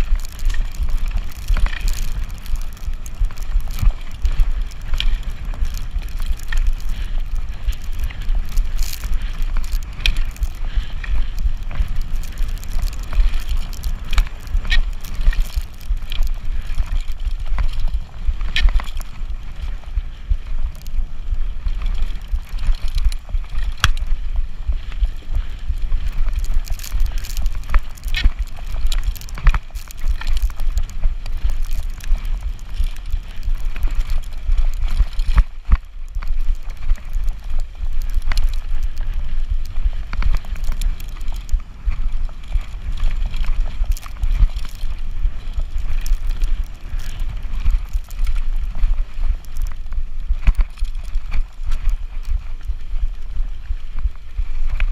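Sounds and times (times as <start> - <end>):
wind rumbling on microphone: 0.0 - 54.9.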